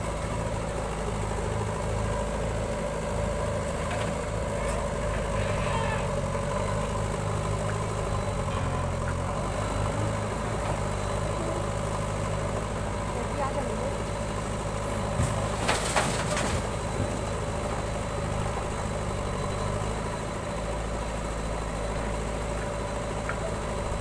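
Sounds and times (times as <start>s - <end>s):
backhoe loader digging: 0.0s - 24.0s
tractor idling: 0.0s - 24.0s.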